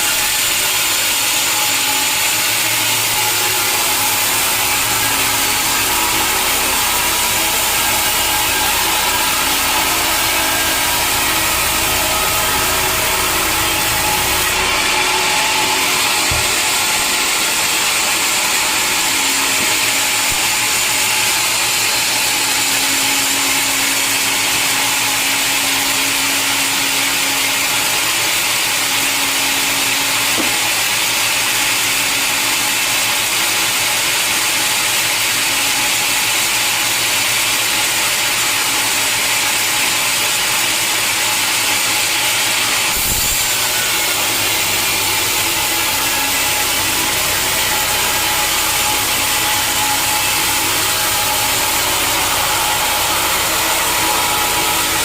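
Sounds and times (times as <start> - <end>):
sawmill saw cutting log: 0.0 - 55.0.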